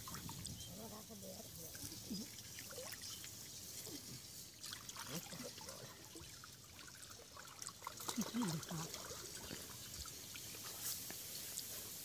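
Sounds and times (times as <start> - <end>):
small water splashes: 0.0 - 11.8
pond water sloshing and trickling: 0.0 - 12.0.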